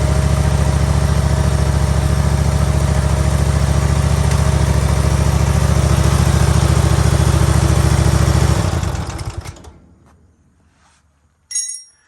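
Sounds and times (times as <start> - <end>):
small engine running: 0.0 - 9.8
engine winding down: 0.0 - 9.9.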